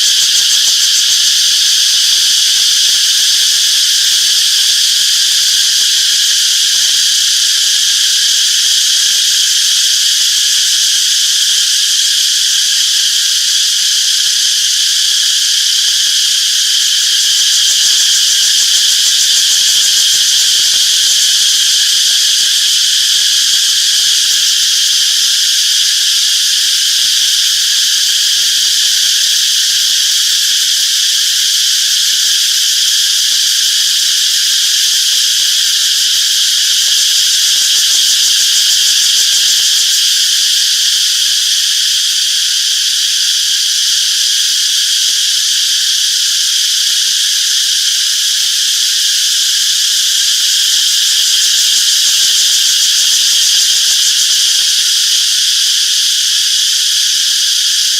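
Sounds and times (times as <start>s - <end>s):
cicadas buzzing: 0.0s - 57.9s.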